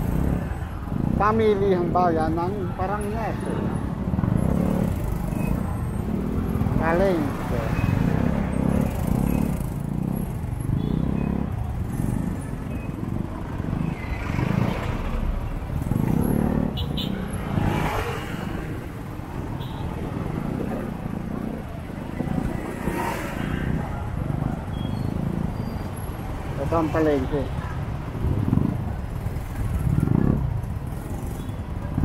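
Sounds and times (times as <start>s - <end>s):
traffic noise: 0.0s - 32.0s.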